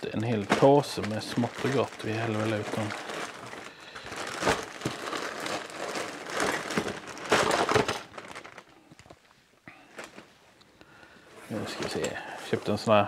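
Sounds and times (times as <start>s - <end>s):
plastic bag crinkling: 0.0s - 9.2s, 9.9s - 10.3s, 11.5s - 13.0s.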